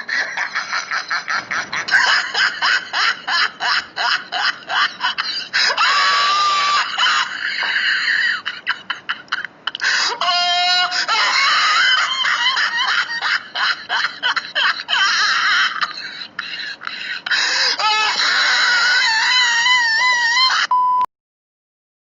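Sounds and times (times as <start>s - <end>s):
bursts of laughing: 0.0s - 20.7s.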